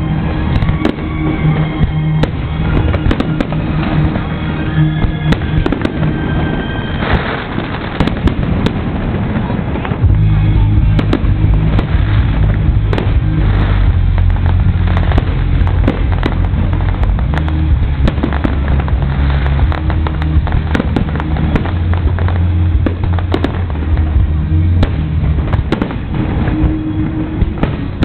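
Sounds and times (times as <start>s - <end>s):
fireworks booming bursts: 0.0s - 28.0s
fireworks crackling: 0.0s - 28.0s
steady low-pitched tones: 0.0s - 28.0s.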